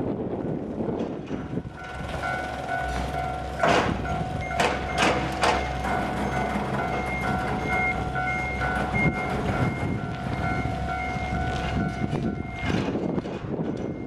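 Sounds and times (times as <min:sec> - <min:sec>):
train rumble: 0:00.0 - 0:14.0
wheel clacks over rail joints: 0:00.5 - 0:14.0
level crossing alarm clanging: 0:01.0 - 0:14.0.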